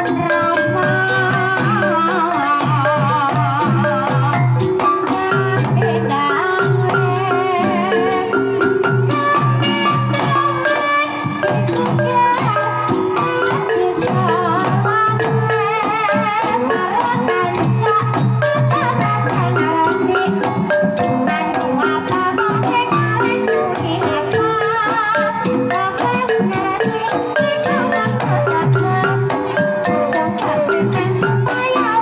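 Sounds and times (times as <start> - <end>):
gamelan ensemble playing: 0.0 - 32.0
hand drum: 0.0 - 32.0
woman singing: 0.0 - 32.0.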